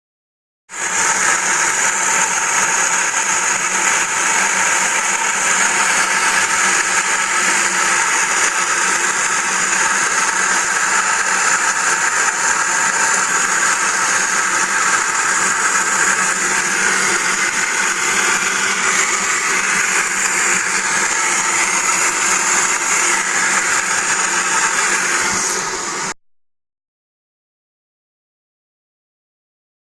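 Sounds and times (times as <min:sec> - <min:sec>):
mechanical whirring with whine: 0:00.8 - 0:26.2.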